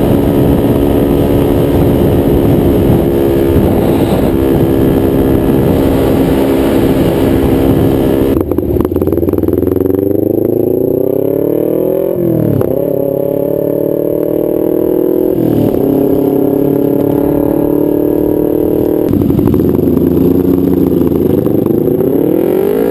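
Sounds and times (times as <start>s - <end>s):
motorcycle engine revving: 0.0s - 22.9s
wind noise: 0.0s - 22.9s.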